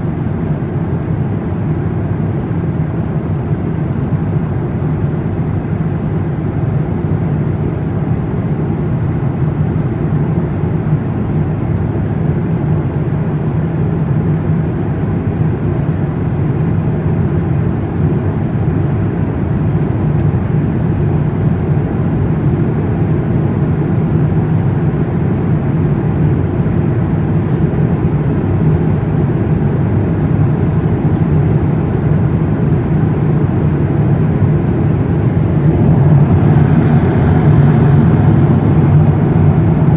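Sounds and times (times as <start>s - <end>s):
jet airliner rumble: 0.0s - 39.9s.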